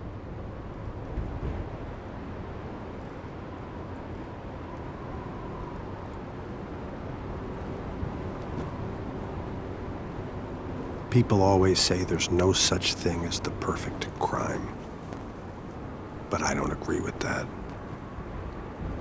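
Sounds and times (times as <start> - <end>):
faint steady hum: 0.0 - 19.0
low rumbling ambience: 0.0 - 19.0.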